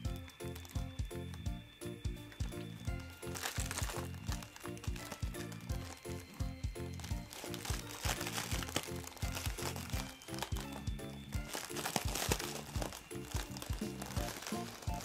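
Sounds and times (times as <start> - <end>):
foil balloons crinkling: 0.0 - 1.6, 2.2 - 15.0
background music: 0.0 - 15.0.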